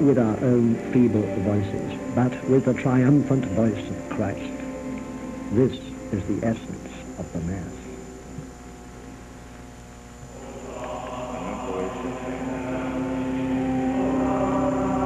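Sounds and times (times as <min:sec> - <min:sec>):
church music sustained chords: 0:00.0 - 0:09.6, 0:10.2 - 0:15.0.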